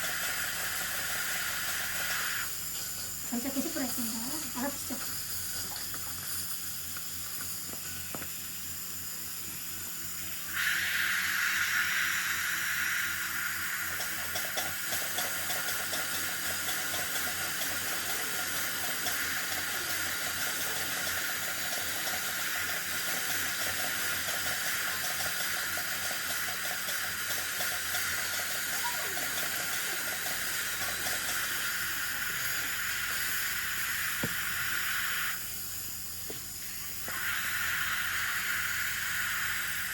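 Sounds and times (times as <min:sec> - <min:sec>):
dental drill with water spray: 0:00.0 - 0:39.9.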